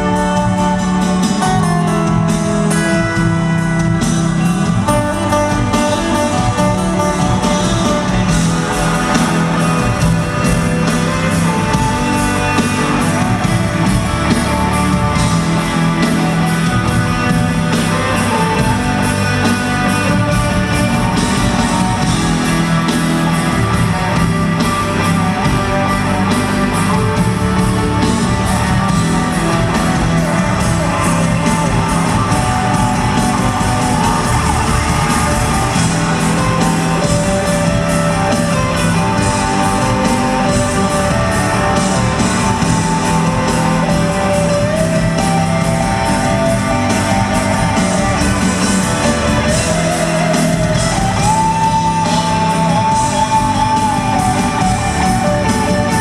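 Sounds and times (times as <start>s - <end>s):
electric guitars: 0.0s - 56.0s
rock band playing: 0.0s - 56.0s
steady drum beat: 0.0s - 56.0s.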